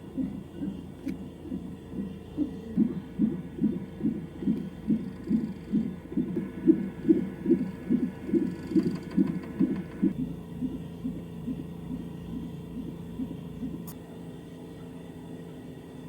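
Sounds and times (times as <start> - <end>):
fetal heartbeat whooshing pulse: 0.0 - 14.0.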